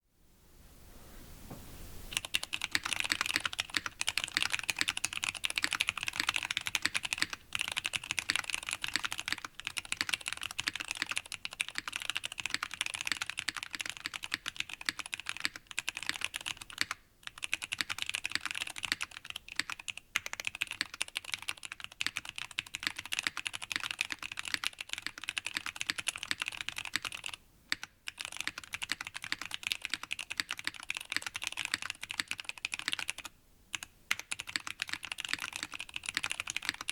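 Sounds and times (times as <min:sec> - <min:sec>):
mechanical keyboard typing: 0:02.1 - 0:36.9.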